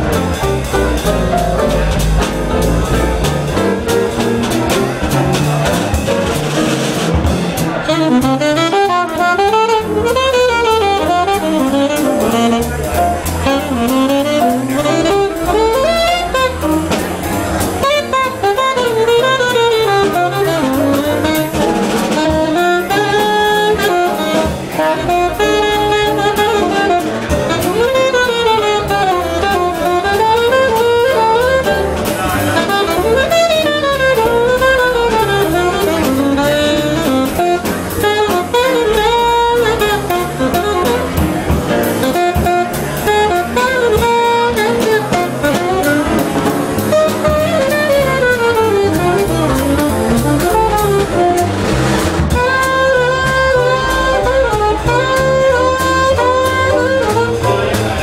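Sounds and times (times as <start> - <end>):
alto saxophone jazz melody: 0.0 - 58.0
drums: 0.0 - 58.0
piano: 0.0 - 58.0.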